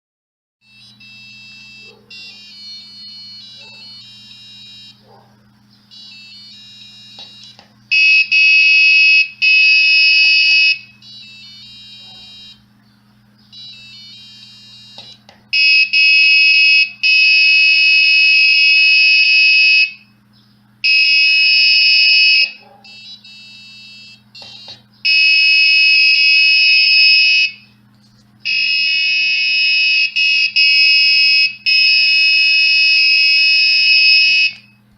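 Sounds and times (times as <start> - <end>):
high electronic buzzer tones: 0.6 - 12.7, 13.4 - 20.2, 20.8 - 27.8, 28.5 - 34.8
steady low hum: 0.6 - 34.9.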